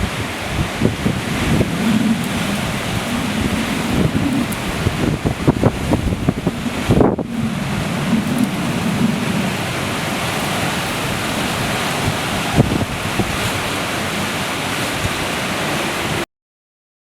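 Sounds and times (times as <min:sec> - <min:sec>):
heavy surf: 0:00.0 - 0:16.2
strong wind on microphone: 0:00.0 - 0:16.2.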